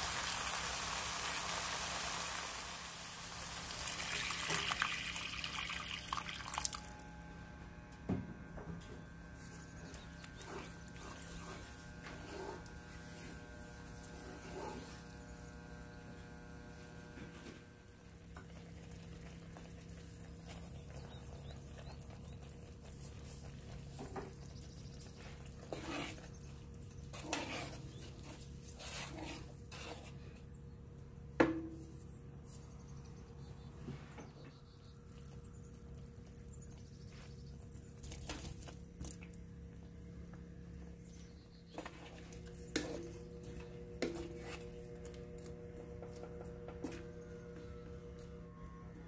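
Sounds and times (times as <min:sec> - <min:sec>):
steady low hum: 0:02.3 - 0:49.0.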